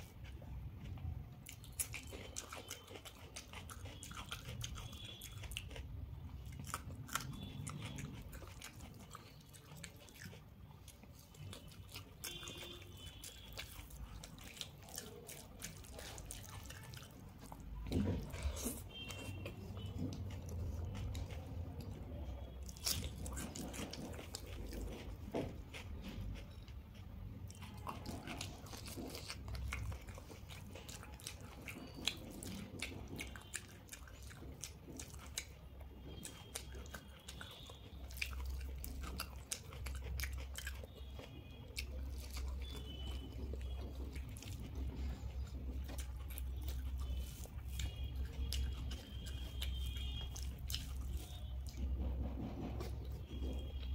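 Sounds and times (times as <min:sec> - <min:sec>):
person chewing crunchy food: 0:00.0 - 0:53.9.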